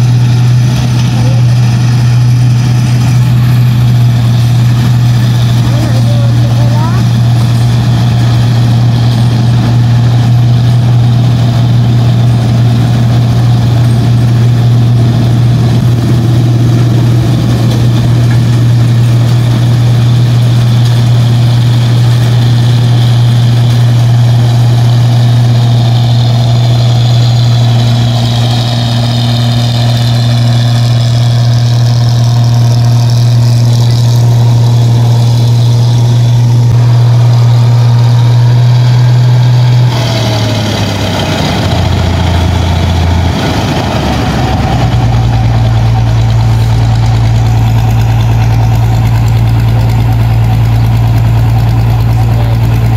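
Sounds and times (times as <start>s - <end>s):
combine harvester engine drone: 0.0s - 52.9s
threshing machinery whine: 0.0s - 52.9s.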